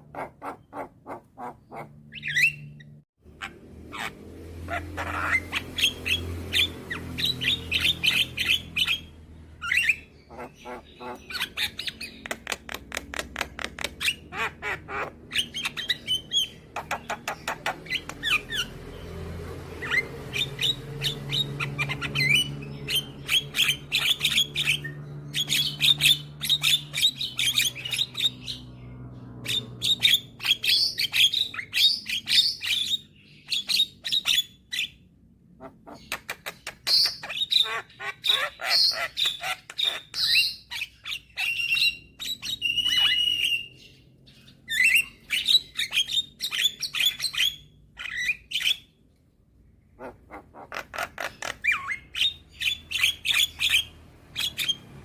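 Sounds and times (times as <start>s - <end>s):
bird singing harsh chattering: 0.0s - 35.1s, 35.7s - 49.0s, 49.9s - 55.0s.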